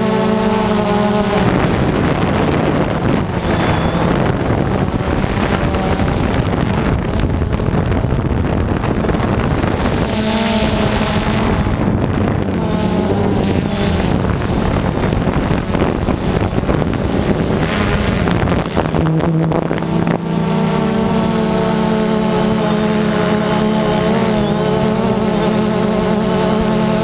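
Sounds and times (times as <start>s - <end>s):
dirt bike engines revving: 0.0s - 27.0s
wind buffeting microphone: 0.0s - 27.0s.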